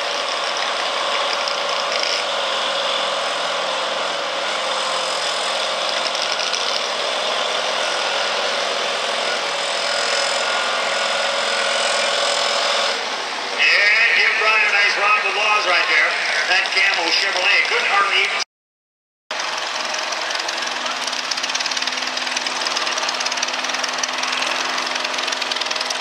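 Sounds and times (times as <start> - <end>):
pickup truck engine running: 0.0 - 9.9, 12.8 - 18.1, 19.3 - 26.0.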